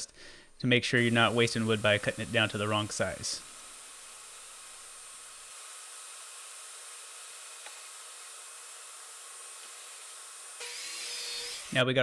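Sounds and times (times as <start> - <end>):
steady hiss: 0.0 - 10.7.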